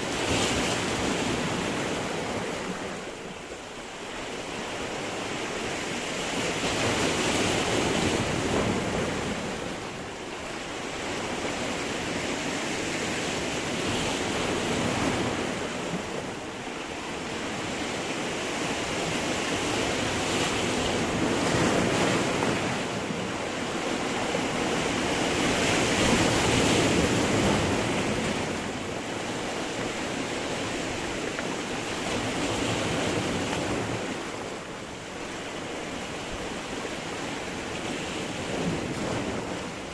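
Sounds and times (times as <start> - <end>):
waves breaking on rocks: 0.0 - 39.9.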